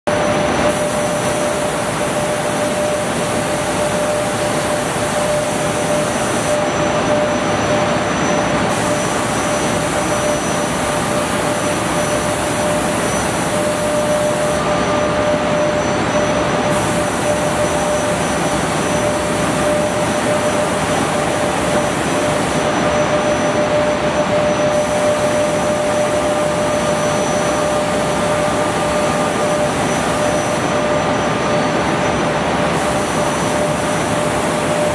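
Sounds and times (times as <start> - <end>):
constant machine whine: 0.0 - 34.9.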